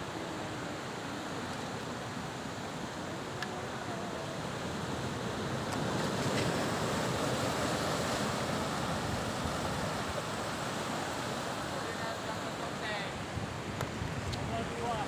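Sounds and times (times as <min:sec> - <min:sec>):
sea surf breaking on rocks: 0:00.0 - 0:15.0.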